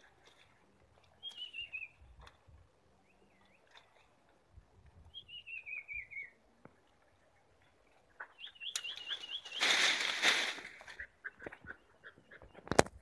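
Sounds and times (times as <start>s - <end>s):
rustling of leaves and branches: 0.0s - 5.3s, 6.4s - 13.0s
songbird singing: 0.0s - 13.0s.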